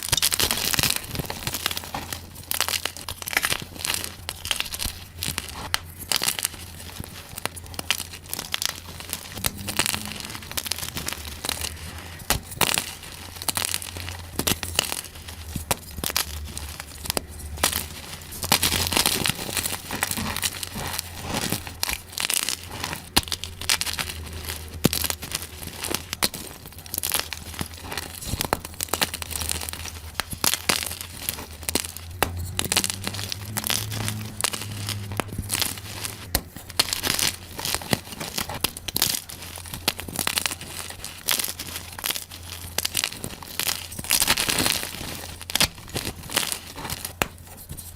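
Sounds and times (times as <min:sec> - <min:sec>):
chalk being crushed: 0:00.0 - 0:47.9.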